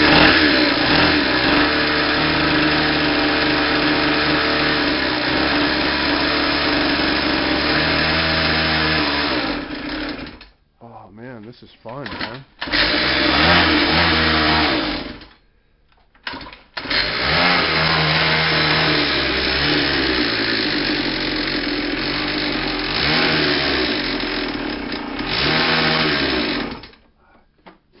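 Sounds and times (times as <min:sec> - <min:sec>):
small dirt bike engine revving: 0:00.0 - 0:10.4, 0:12.2 - 0:15.3, 0:16.3 - 0:27.0.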